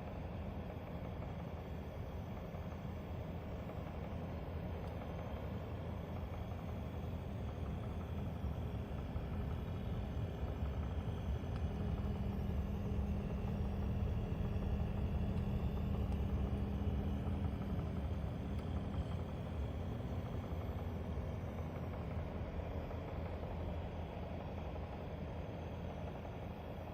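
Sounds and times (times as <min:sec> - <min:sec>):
dehumidifier humming: 0:02.6 - 0:26.1.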